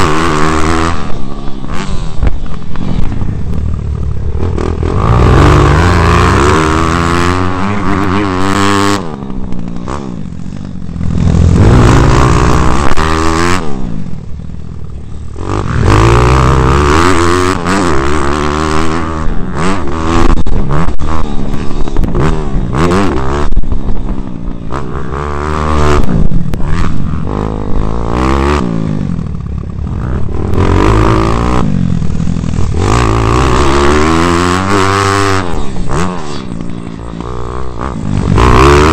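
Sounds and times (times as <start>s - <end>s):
small motorbike engine revving: 0.0s - 14.2s, 15.0s - 38.9s.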